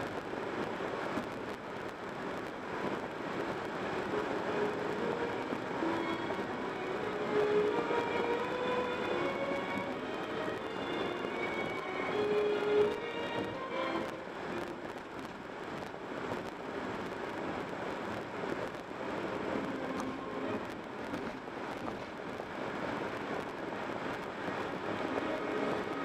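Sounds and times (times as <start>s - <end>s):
car tyre and road noise: 0.0s - 26.0s.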